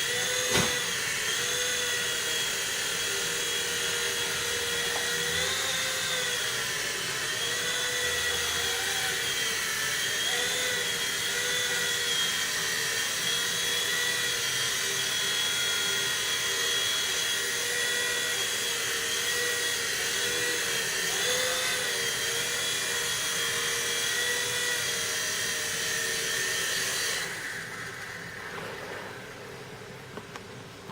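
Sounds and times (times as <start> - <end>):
toy helicopter motor whine: 0.0 - 29.2.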